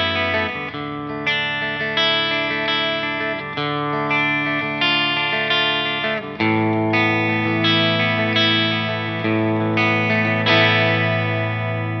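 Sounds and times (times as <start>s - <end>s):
electric guitar chords strummed: 0.0s - 12.0s.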